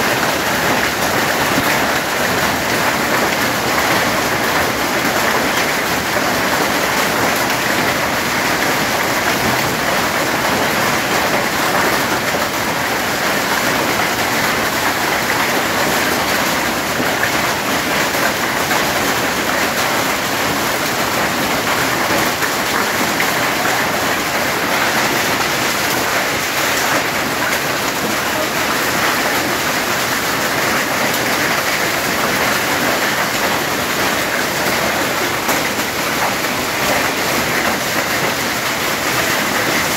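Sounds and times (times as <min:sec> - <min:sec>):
hail pelting on tin sheeting: 0:00.0 - 0:39.9
heavy rain: 0:00.0 - 0:39.9.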